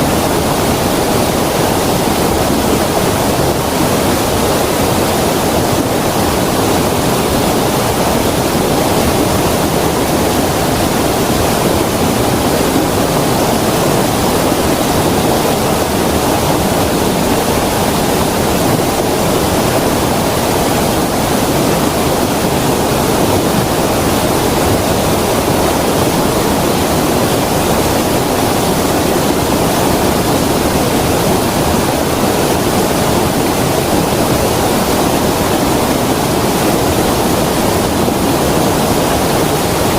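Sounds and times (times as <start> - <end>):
creek water rushing over stones: 0.0 - 39.9.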